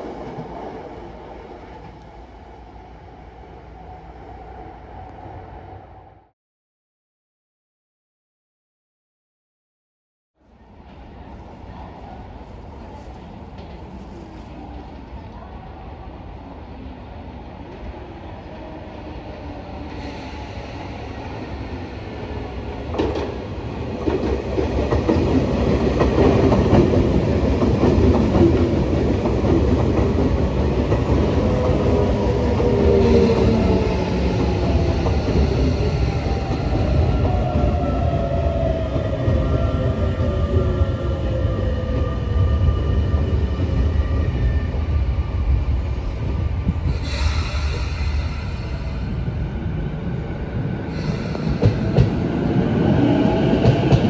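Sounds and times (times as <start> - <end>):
train rumble: 10.5 - 54.0.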